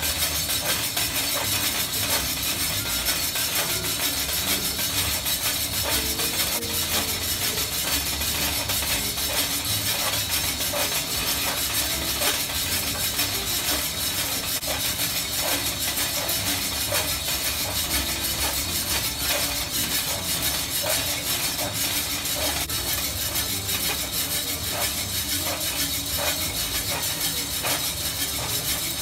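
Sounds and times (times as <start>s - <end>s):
coffee beans rattling in roaster: 0.0s - 29.0s.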